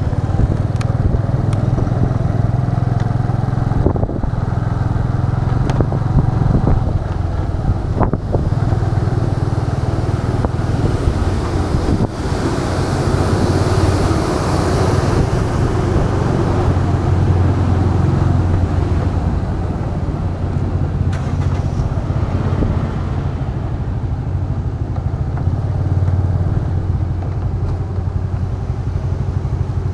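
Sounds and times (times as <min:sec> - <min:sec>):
motor scooter engine drone: 0:00.0 - 0:29.9.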